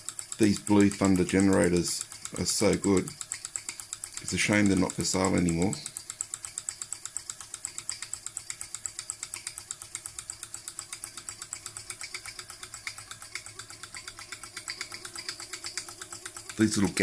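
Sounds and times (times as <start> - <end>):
faint steady hum: 0.0 - 17.0
model steam engine chuffing: 0.0 - 17.0.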